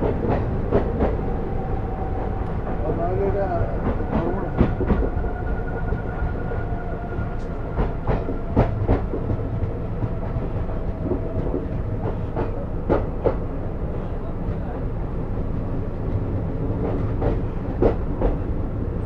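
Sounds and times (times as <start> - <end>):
rail joint clicks: 0.0 - 14.8, 15.8 - 19.0
train wheels rumbling on rails: 0.0 - 19.0.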